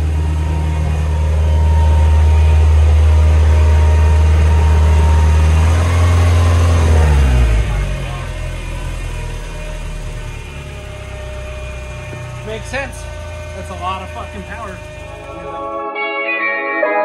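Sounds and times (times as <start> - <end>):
engine running steadily: 0.0 - 15.8.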